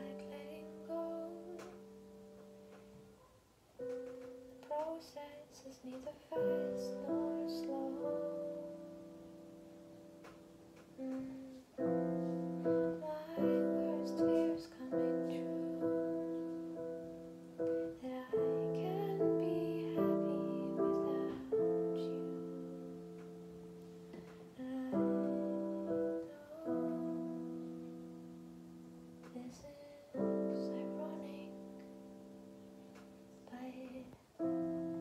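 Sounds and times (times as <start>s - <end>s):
piano chords: 0.0s - 35.0s.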